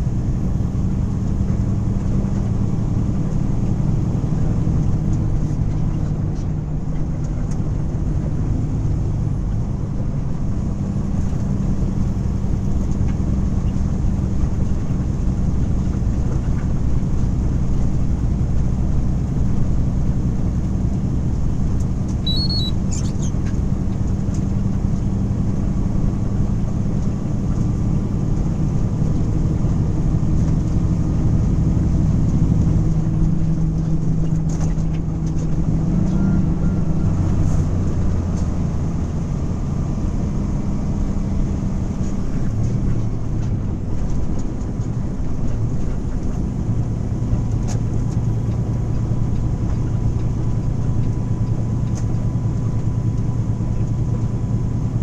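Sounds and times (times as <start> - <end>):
engine drone: 0.0 - 55.0
tyre road noise: 0.0 - 55.0.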